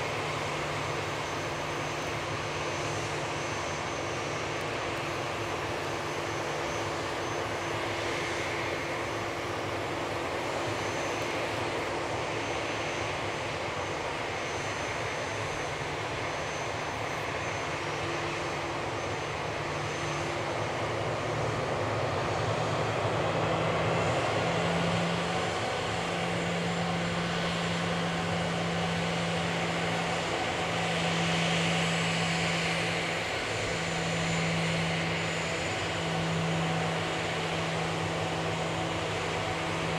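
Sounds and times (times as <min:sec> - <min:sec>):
jet engine rushing: 0:00.0 - 0:39.9.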